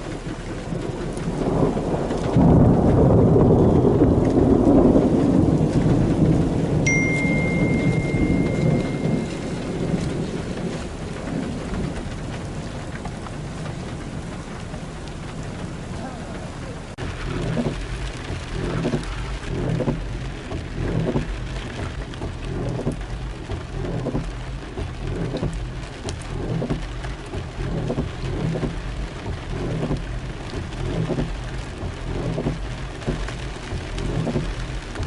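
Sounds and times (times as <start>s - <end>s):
heavy rain falling: 0.0s - 35.0s
pulsing low rumble: 0.0s - 35.0s.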